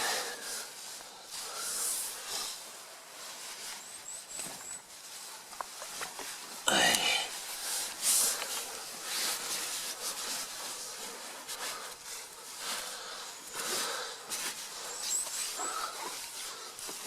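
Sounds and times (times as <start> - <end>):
tent fabric rustling: 0.0 - 17.0.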